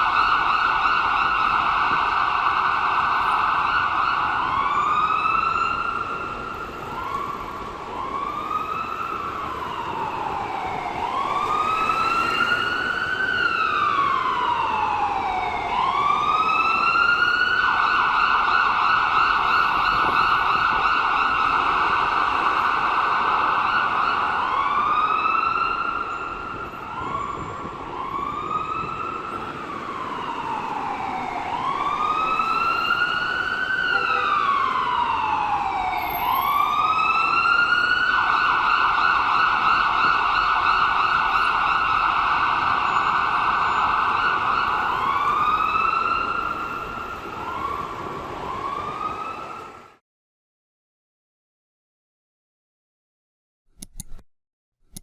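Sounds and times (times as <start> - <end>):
ambulance siren wailing: 0.0 - 50.0.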